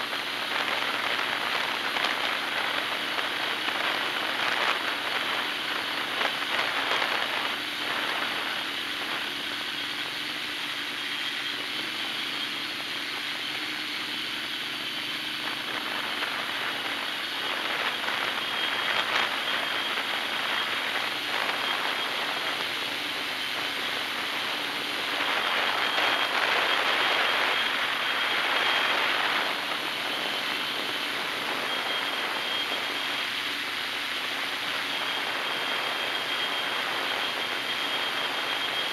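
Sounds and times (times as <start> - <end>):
drone propellers whirring: 0.0 - 38.9
thin high whine: 0.0 - 38.9
wind rush: 0.0 - 38.9.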